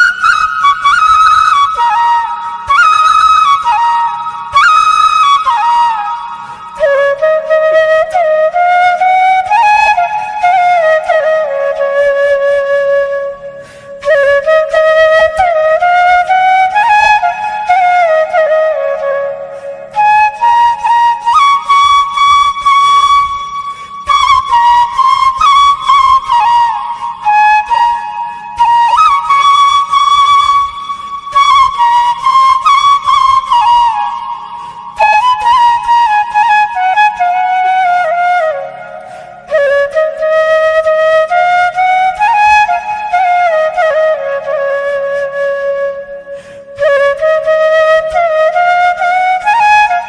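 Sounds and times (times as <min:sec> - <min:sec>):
wind instrument melody: 0:00.0 - 0:50.0.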